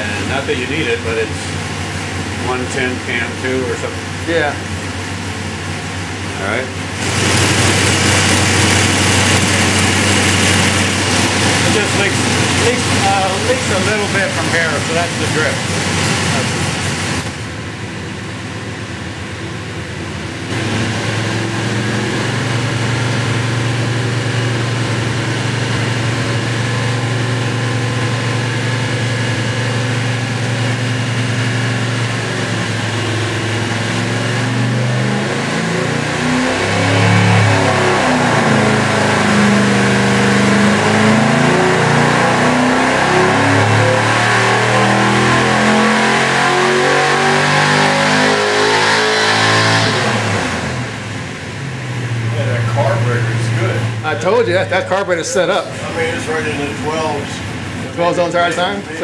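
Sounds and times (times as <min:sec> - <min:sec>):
engine on dyno revving: 0:00.0 - 0:59.0.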